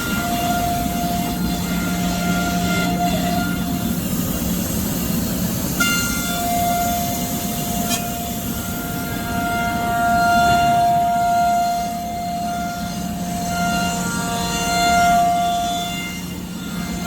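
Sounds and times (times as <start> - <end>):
router spindle high whine: 0.0 - 17.0.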